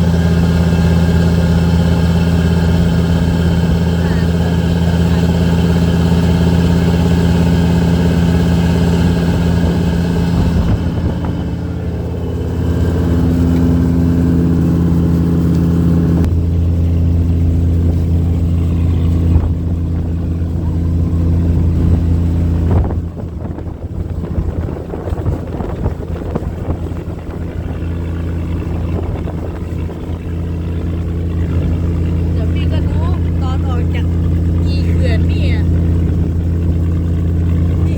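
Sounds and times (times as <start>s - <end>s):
boat engine droning: 0.0s - 37.9s.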